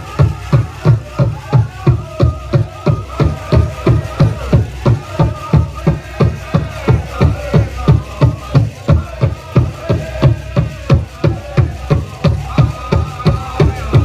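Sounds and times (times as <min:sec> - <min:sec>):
drum beating quick rhythm: 0:00.0 - 0:14.0
singers' high voices: 0:00.0 - 0:14.0.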